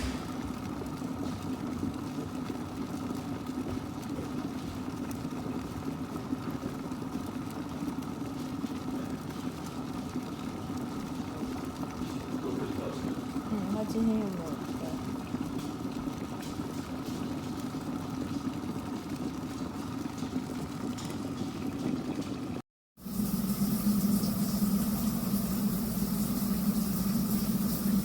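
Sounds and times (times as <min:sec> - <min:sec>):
electric kettle humming: 0:00.0 - 0:28.0.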